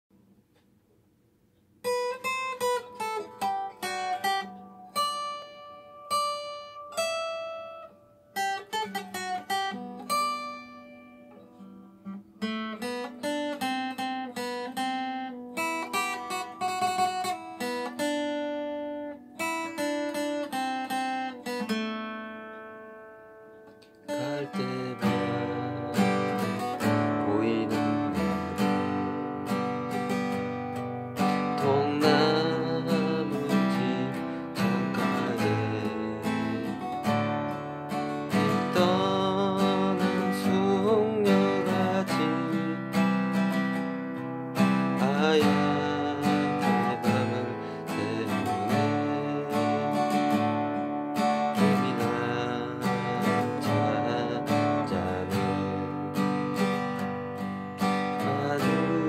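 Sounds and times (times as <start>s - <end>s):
acoustic guitar playing: 0.1s - 59.0s.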